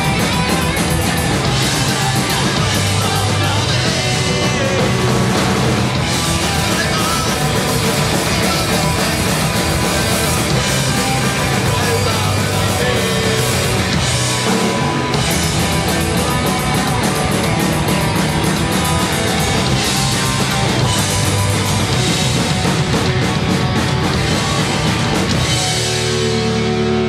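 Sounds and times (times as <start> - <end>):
bass guitar: 0.0 - 27.0
drum kit: 0.0 - 27.0
electric guitars: 0.0 - 27.0.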